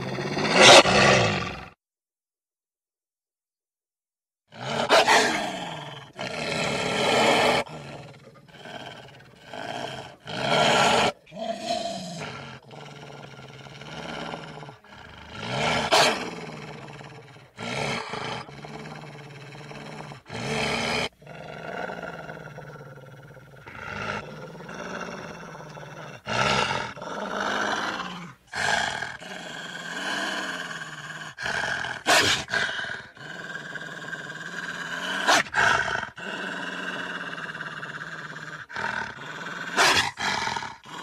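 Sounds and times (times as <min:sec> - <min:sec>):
animal growls and roars: 0:00.0 - 0:01.8, 0:04.5 - 0:41.0.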